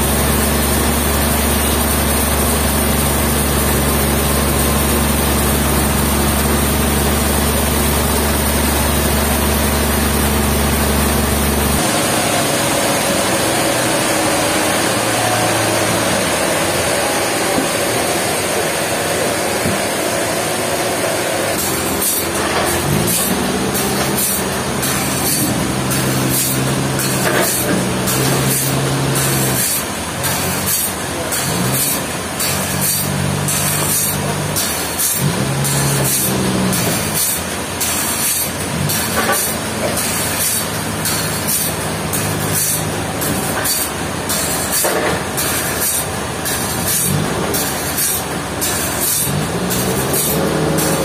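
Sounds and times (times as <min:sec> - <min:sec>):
sawmill motor hum: 0:00.0 - 0:51.0.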